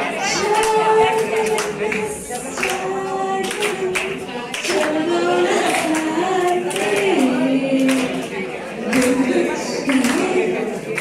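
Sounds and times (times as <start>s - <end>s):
scattered claps: 0.0s - 11.0s
woman singing unaccompanied: 0.0s - 11.0s.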